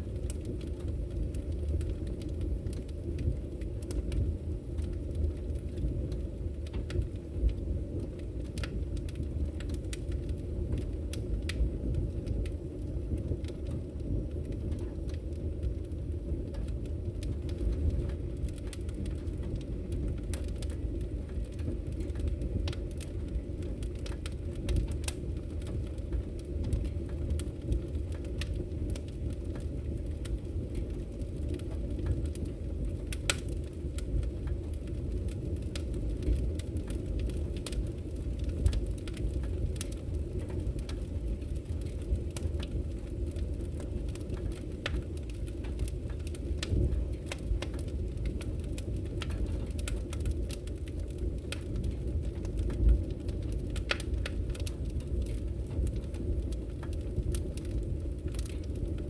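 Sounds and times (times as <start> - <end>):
low rumble of flames: 0.0 - 59.0
wood crackles and pops: 0.0 - 59.0.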